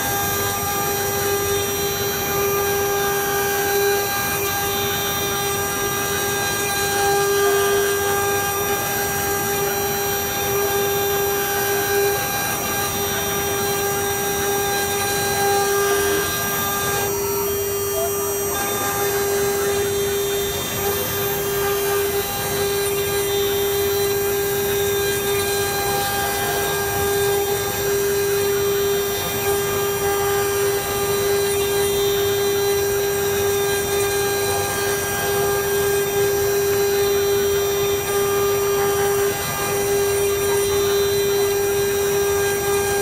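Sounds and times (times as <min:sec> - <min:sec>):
bit cutting wood: 0:00.0 - 0:43.0
router spindle whine: 0:00.0 - 0:43.0.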